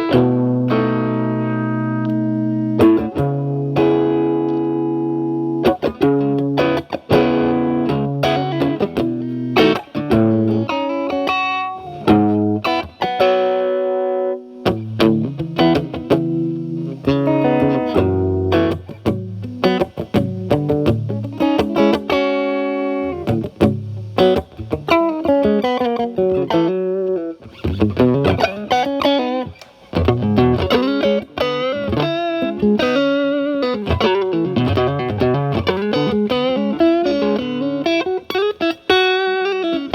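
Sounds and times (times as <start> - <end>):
overdriven electric guitar phrases: 0.0 - 39.9.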